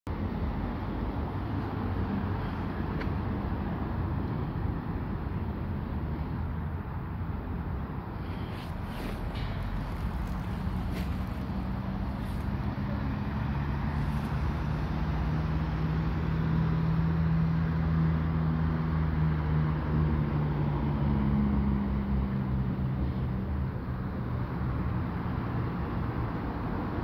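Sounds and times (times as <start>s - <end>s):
road traffic: 0.1s - 27.0s
vehicle engine humming: 0.1s - 27.0s.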